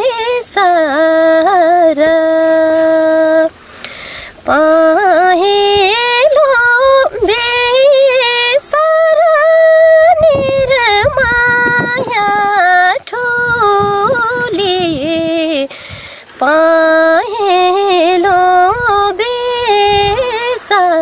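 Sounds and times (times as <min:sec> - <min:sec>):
woman singing folk song: 0:00.0 - 0:21.0.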